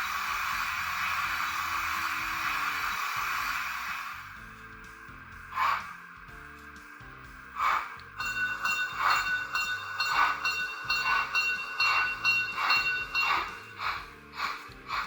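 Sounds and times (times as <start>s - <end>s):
model steam locomotive chuffs: 0.0s - 15.0s
steady high tone: 0.0s - 15.0s.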